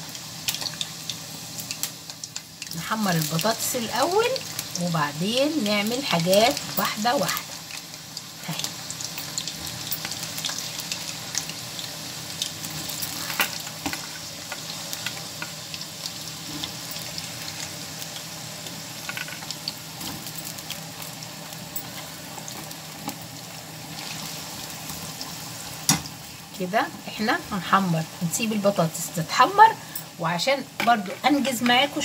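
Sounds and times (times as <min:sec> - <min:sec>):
potatoes sizzling in oil: 0:00.0 - 0:32.0.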